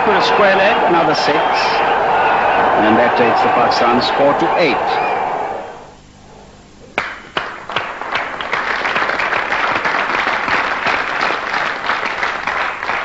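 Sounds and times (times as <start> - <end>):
audience applauding: 0.0 - 5.8, 7.0 - 13.0.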